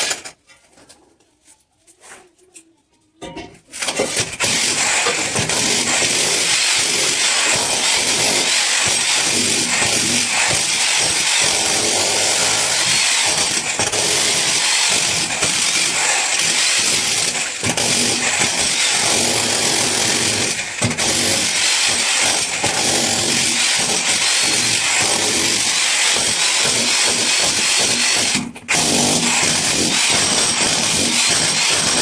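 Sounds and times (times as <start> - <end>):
power tool cutting masonry: 0.0 - 0.3, 3.8 - 32.0.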